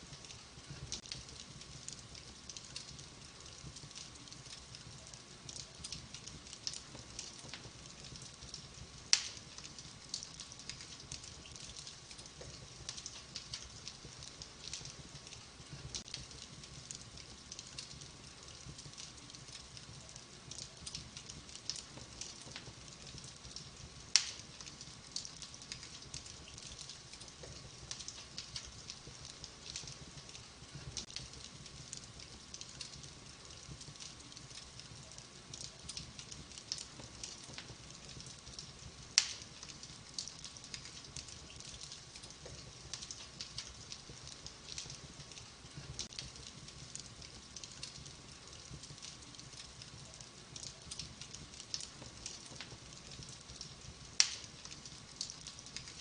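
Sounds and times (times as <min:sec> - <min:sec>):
wood fire crackling: 0:00.0 - 0:56.0
loud fire pops: 0:00.2 - 0:35.0, 0:35.6 - 0:56.0.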